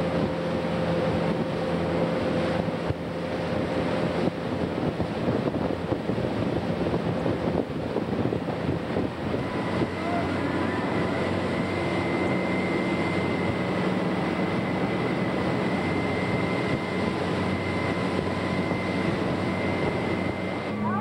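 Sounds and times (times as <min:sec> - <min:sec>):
boat engine running: 0:00.0 - 0:21.0
water rushing from wake: 0:00.0 - 0:21.0.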